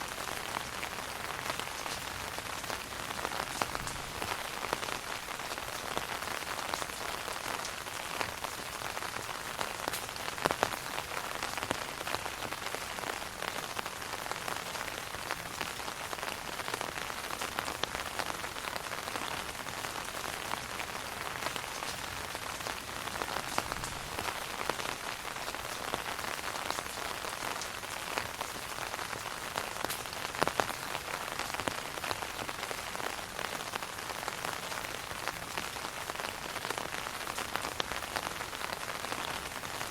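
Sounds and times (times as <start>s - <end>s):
rain on umbrella: 0.0s - 39.9s.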